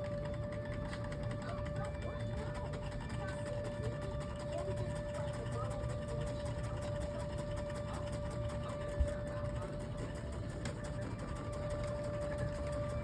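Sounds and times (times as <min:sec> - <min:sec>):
air raid siren from speaker: 0:00.0 - 0:13.0.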